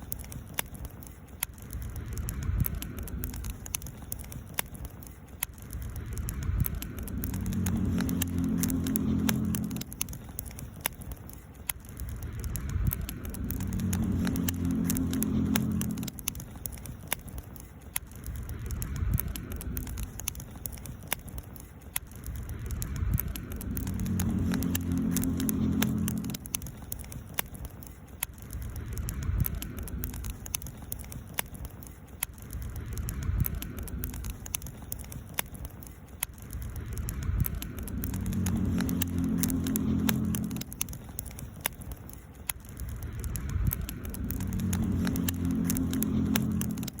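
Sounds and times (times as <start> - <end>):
campfire crackling and popping: 0.0 - 47.0
low rumble: 0.0 - 47.0.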